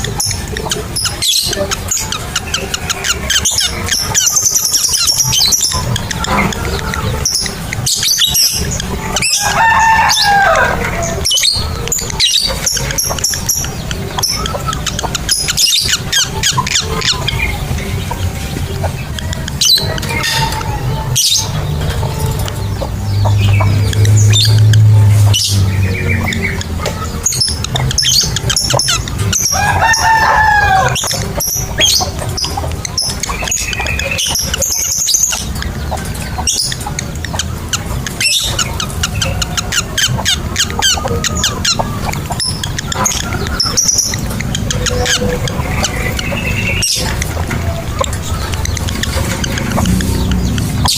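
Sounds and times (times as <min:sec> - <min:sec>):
lovebirds chirping and trilling: 0:00.0 - 0:50.9.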